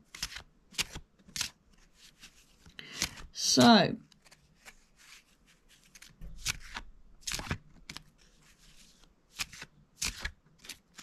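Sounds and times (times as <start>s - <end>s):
cards being shuffled: 0.1s - 11.0s.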